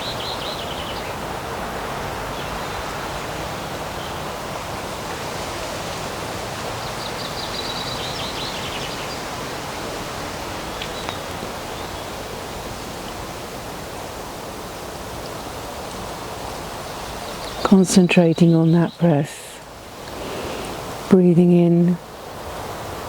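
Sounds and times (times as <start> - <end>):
breeze rushing through trees: 0.0 - 23.0.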